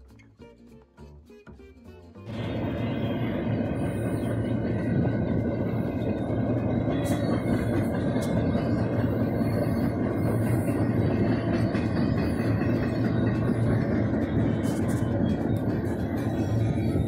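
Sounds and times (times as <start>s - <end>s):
train wheels running on rails: 2.2s - 17.0s.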